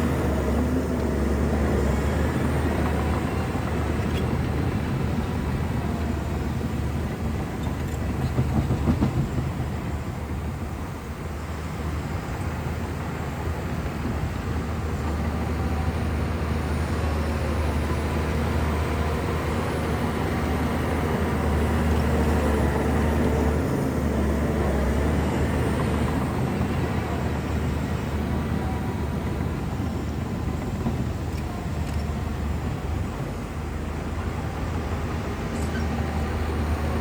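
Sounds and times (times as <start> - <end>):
bulldozer diesel engine: 0.0 - 37.0.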